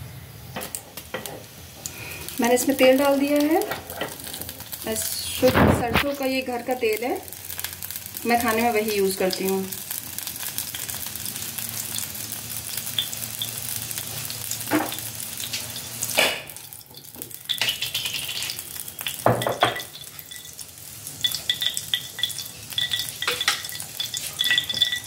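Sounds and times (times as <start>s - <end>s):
oil sizzling in a pan: 0.0s - 25.0s.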